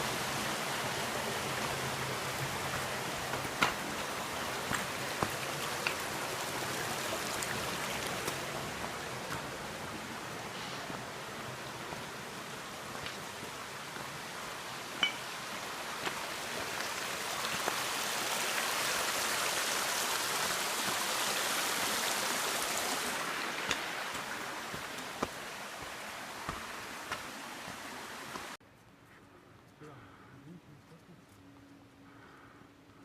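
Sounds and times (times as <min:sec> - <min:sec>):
waterfall rushing water: 0:00.0 - 0:28.6.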